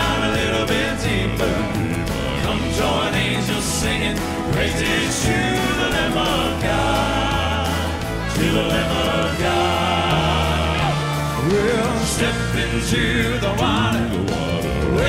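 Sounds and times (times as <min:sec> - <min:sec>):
live band accompaniment: 0:00.0 - 0:15.0
male quartet singing in harmony: 0:00.0 - 0:15.0.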